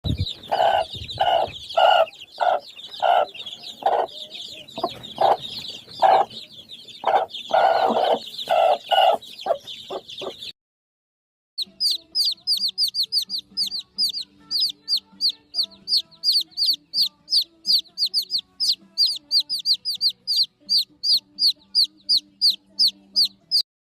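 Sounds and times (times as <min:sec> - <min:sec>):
chickens clucking and squawking: 0:00.1 - 0:10.5, 0:11.6 - 0:23.6.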